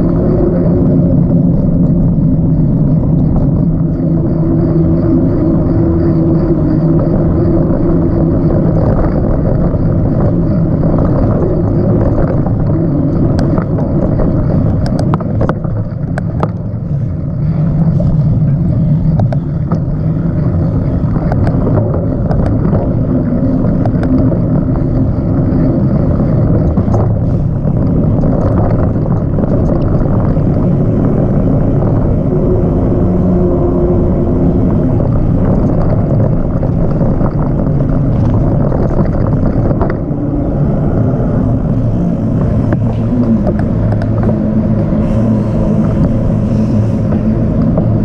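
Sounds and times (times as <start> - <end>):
bike clicks and rattles: 0.0 - 48.0
tyres rolling on dirt: 0.0 - 48.0
wind on microphone: 0.0 - 48.0.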